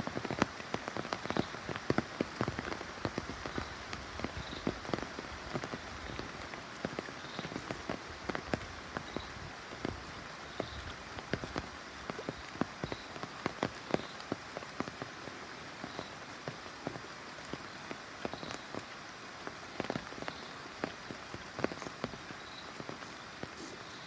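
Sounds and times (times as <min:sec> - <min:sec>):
rain hissing: 0:00.0 - 0:24.0
raindrops pattering: 0:00.0 - 0:24.0.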